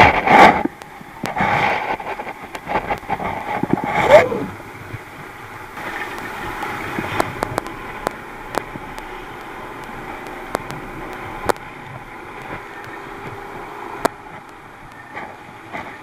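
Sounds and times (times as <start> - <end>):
outboard engine running: 0.0 - 16.0
water and spray: 0.0 - 16.0
waves knocking on boat: 0.0 - 16.0.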